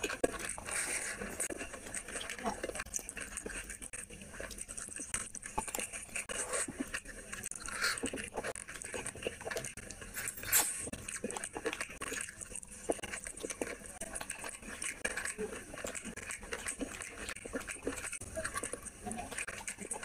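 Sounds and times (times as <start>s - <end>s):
chewing and wet mouth noises: 0.0s - 20.0s.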